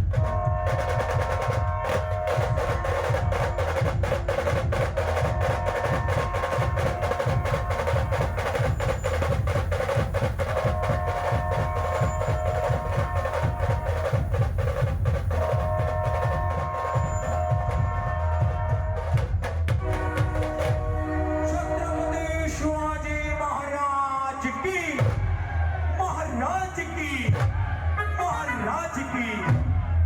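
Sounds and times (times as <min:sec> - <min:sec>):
drum band playing: 0:00.0 - 0:23.7, 0:24.7 - 0:25.7, 0:26.3 - 0:30.0.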